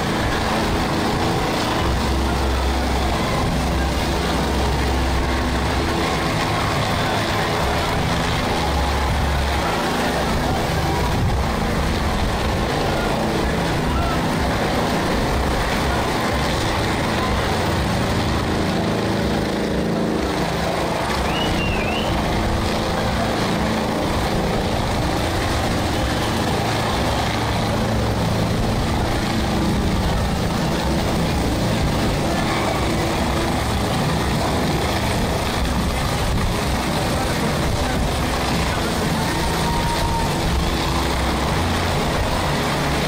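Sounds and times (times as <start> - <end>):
helicopter rotor and engine drone: 0.0 - 43.0.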